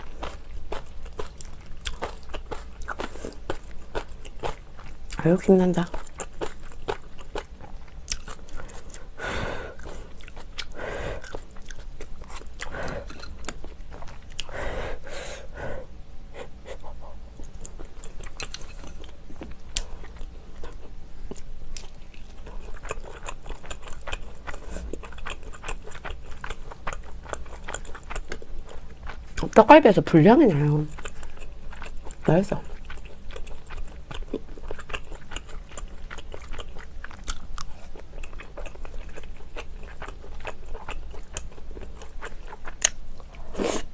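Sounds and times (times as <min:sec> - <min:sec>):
chewing with wet crunches: 0:00.0 - 0:14.6, 0:16.6 - 0:43.9.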